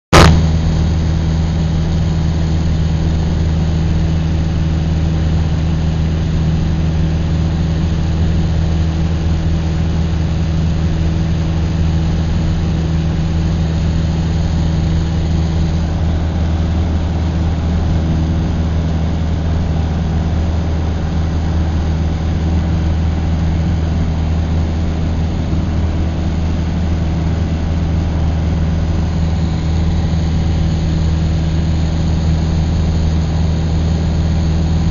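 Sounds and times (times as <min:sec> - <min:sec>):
low engine drone: 0:00.1 - 0:34.9.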